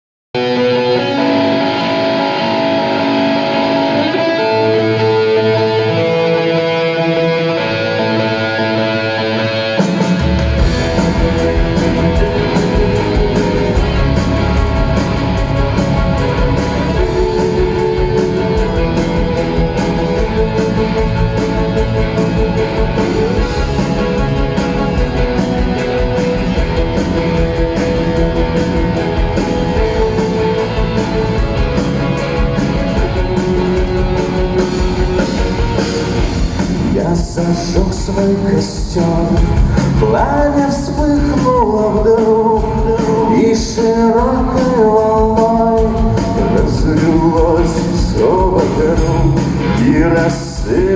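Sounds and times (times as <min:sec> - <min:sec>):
rock band playing: 0:00.4 - 0:50.9.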